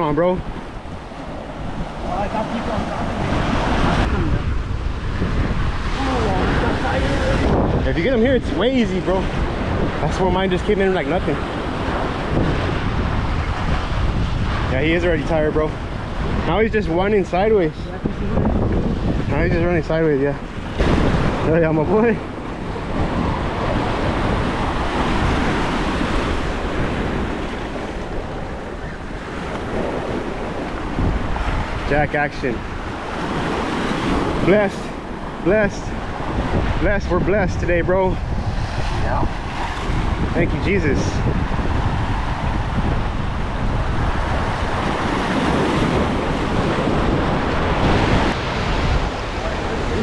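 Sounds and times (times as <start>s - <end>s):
ocean surf breaking on rocks: 0.0s - 50.0s
wind buffeting microphone: 0.0s - 50.0s.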